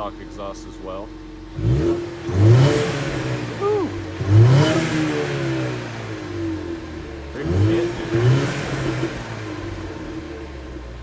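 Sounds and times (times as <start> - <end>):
car engine revving in blips: 1.4 - 11.0.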